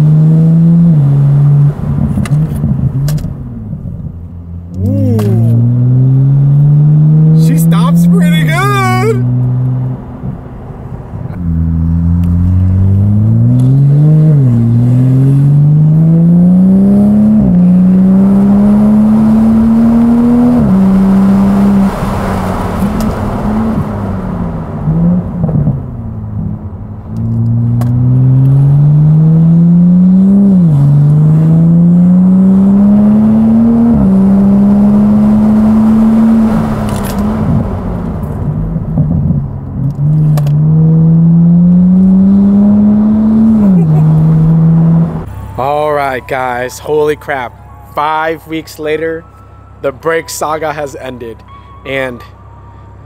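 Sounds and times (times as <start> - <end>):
car engine accelerating through gears: 0.0 - 45.8
road noise: 0.0 - 53.0.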